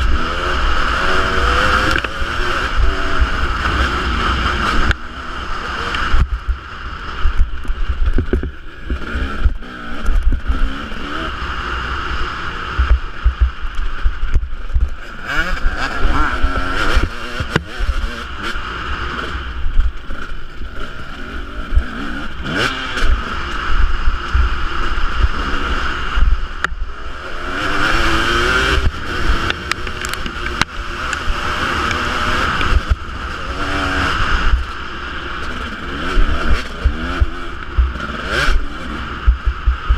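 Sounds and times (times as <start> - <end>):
wind rumble on microphone: 0.0 - 11.3, 12.2 - 18.7, 21.4 - 39.9
motocross bike engine revving: 0.0 - 39.9.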